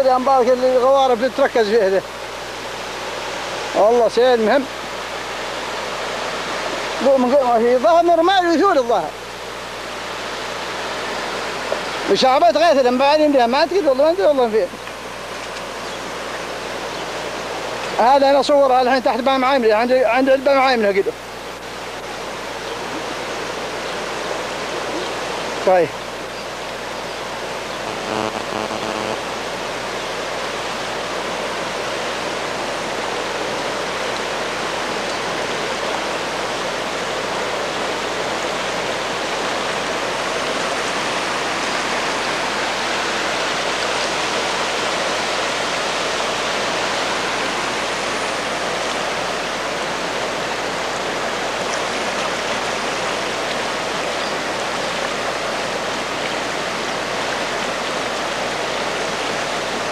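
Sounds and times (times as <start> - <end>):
flood water rushing: 0.0 - 59.9.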